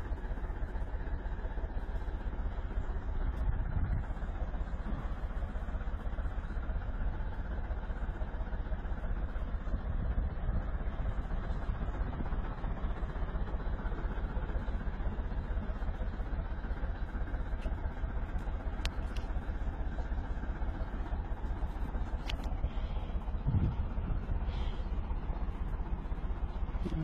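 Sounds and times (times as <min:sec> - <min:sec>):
diesel engine low rumble: 0:00.0 - 0:27.0.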